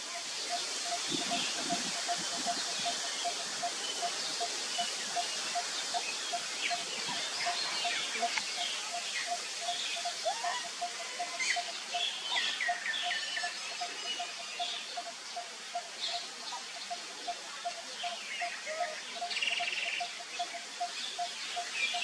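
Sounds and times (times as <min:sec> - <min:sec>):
birds chirping: 0:00.2 - 0:22.0.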